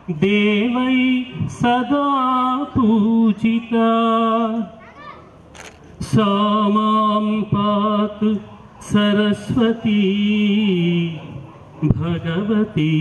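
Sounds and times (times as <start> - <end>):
voices singing slow song: 0.0 - 4.7, 6.0 - 13.0.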